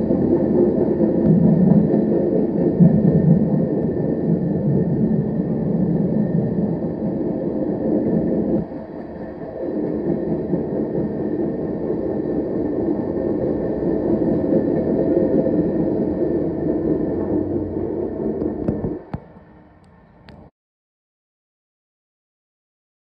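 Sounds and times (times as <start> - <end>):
train wheels rumbling on rails: 0.0 - 20.5.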